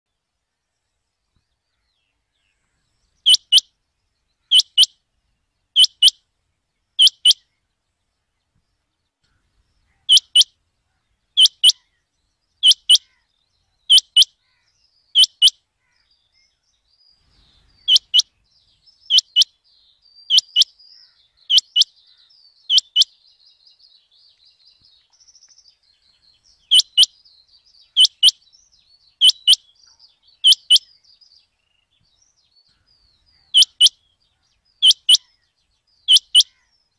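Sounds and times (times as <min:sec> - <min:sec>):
faint birds twittering: 0:00.1 - 0:36.9.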